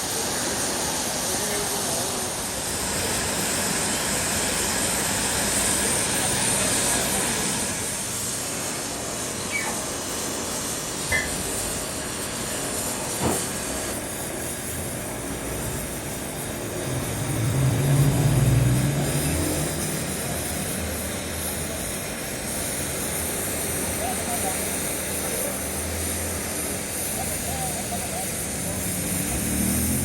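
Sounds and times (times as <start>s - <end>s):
workshop machinery hissing: 0.0s - 30.0s.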